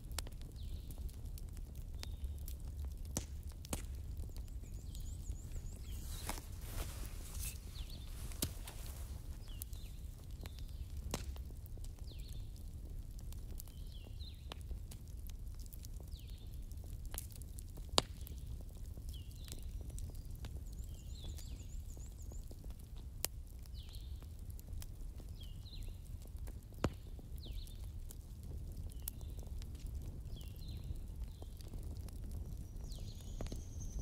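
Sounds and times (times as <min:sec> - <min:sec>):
fire popping: 0:00.0 - 0:34.0
wood fire crackling: 0:00.0 - 0:34.0.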